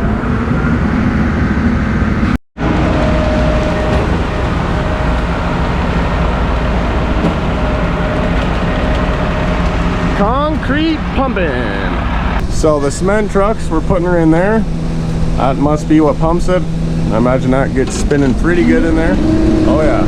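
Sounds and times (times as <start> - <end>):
diesel truck engines running: 0.0 - 20.0.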